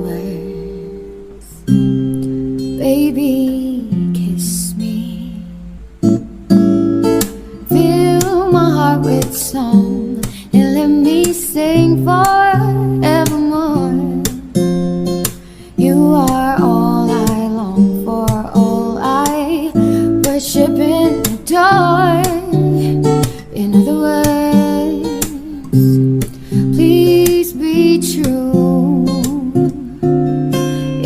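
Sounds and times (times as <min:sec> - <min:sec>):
woman singing: 0:00.0 - 0:01.6, 0:02.8 - 0:05.8, 0:07.6 - 0:14.8, 0:15.7 - 0:31.0
acoustic guitar jazz: 0:00.0 - 0:31.0.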